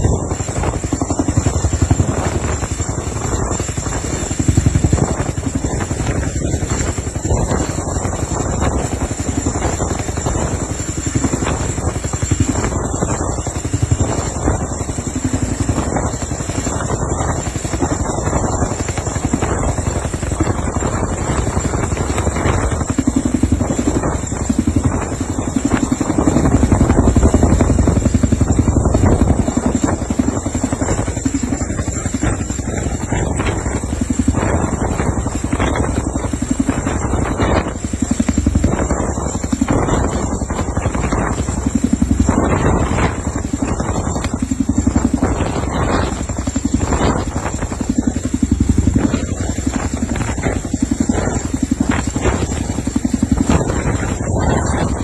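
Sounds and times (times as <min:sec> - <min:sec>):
helicopter rotor beating: 0:00.0 - 0:55.0
turbine whine: 0:00.0 - 0:55.0.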